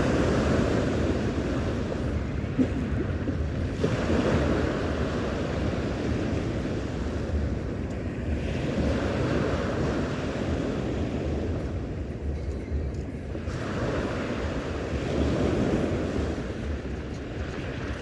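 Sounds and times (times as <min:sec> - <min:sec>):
sea surf washing ashore: 0:00.0 - 0:12.3, 0:13.3 - 0:18.0
wind rumbling on microphone: 0:00.0 - 0:18.0.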